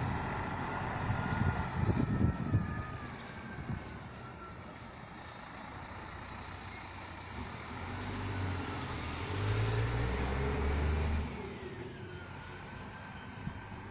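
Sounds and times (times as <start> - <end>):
bus diesel engine accelerating: 0.0 - 13.9.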